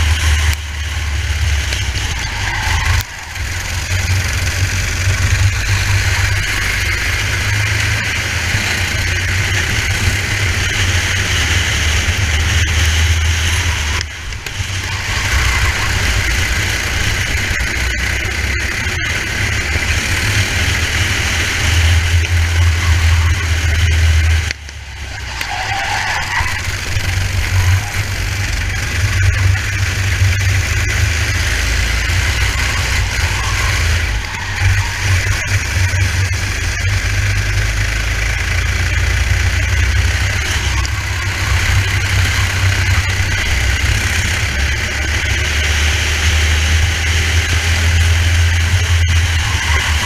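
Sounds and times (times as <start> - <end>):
kart engine running: 0.0 - 50.0.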